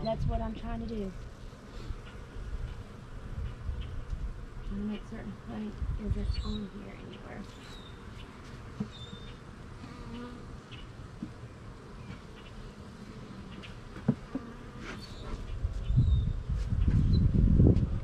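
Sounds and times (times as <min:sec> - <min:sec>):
bees buzzing: 0:00.0 - 0:16.4.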